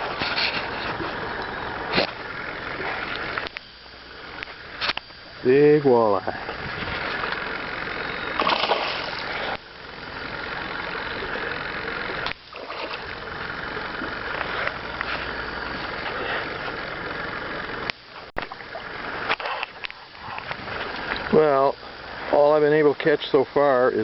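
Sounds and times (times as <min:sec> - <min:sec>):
water rushing along hull: 0:00.0 - 0:23.8
boat motor running: 0:00.0 - 0:24.0.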